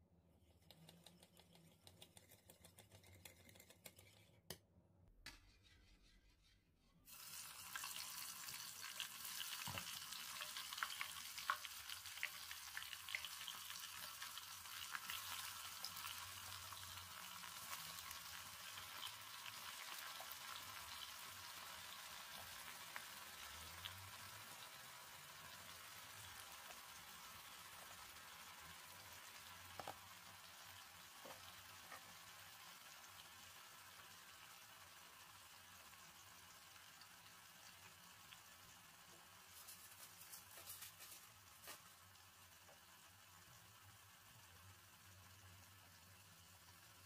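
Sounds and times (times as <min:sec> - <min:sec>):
deep-frying sizzle and crackles: 0:07.1 - 0:47.0.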